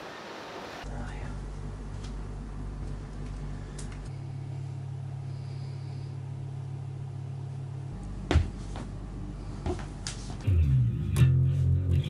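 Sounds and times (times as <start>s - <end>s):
steady low rumble: 0.8s - 12.0s.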